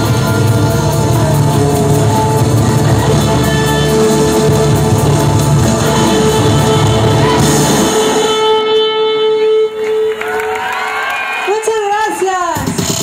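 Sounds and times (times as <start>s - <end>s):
live band playing rock pop: 0.0s - 10.1s, 12.4s - 13.0s
electric guitar: 0.0s - 11.2s.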